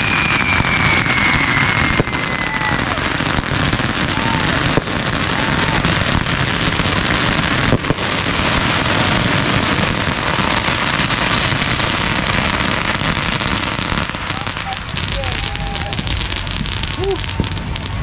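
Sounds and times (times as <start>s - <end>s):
fireworks crackling: 0.0s - 18.0s
sharp firework crack: 0.0s - 18.0s.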